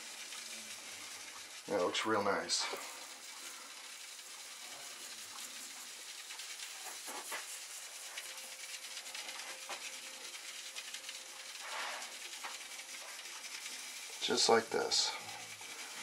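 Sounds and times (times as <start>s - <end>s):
dirt grains sifting: 0.0s - 16.0s.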